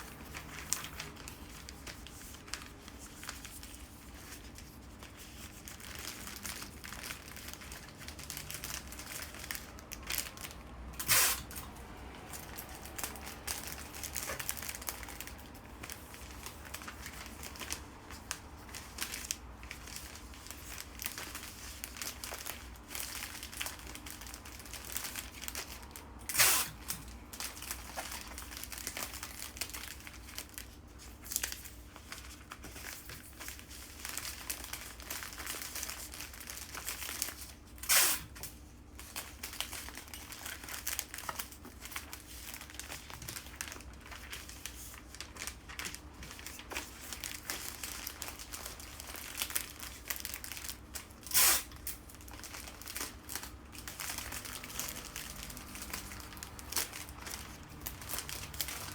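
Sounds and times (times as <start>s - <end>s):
wrapping sheets rustling: 0.0s - 58.9s.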